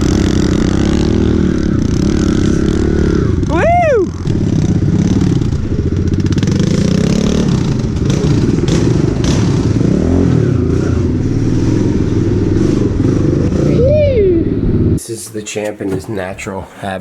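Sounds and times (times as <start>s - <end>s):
pit bike engine under throttle: 0.0s - 15.0s.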